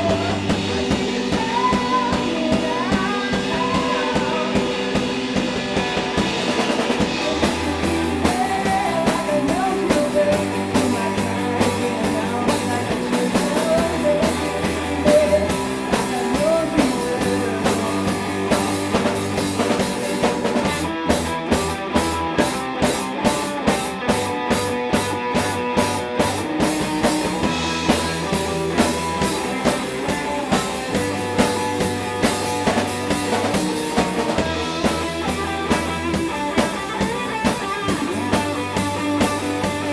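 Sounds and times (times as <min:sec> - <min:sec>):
bass line: 0:00.0 - 0:39.9
drum kit beat: 0:00.0 - 0:39.9
electric guitar: 0:00.0 - 0:39.9.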